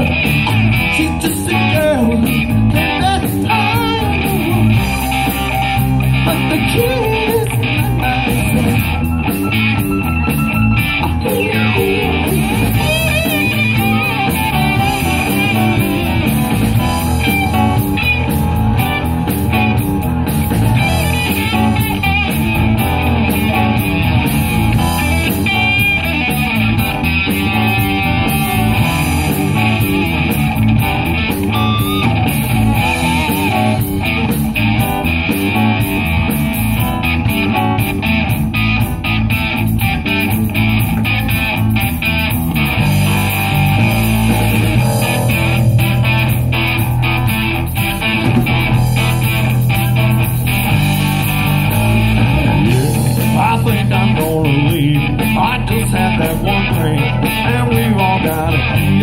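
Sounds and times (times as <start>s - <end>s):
bass guitar: 0.0s - 59.0s
drums: 0.0s - 59.0s
electric guitar: 0.0s - 59.0s.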